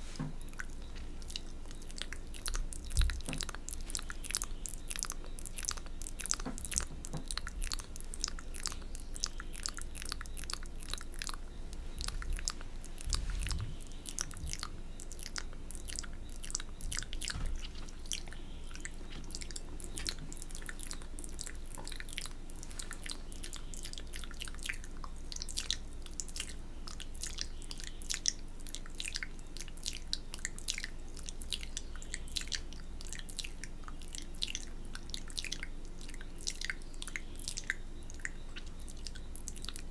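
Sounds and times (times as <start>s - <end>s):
wet mouth sounds: 0.0s - 39.9s
spit clicks and lip smacks: 0.2s - 39.9s.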